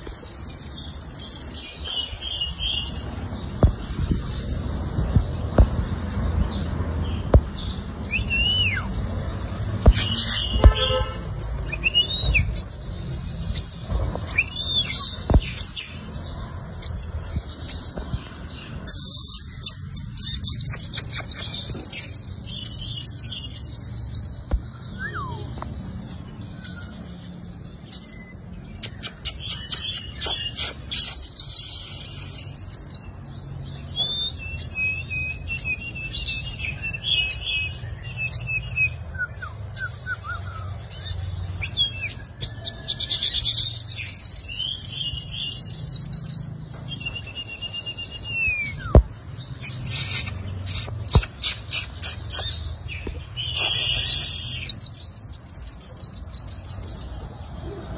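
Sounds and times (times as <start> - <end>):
bird chirping and trilling: 0.0 - 57.9.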